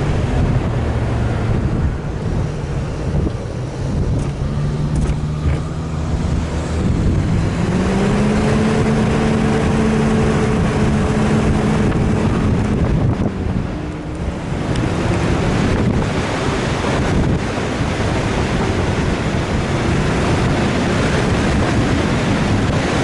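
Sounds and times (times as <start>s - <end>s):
off-road vehicle engine running: 0.0s - 23.0s
wind noise on microphone: 0.0s - 23.0s.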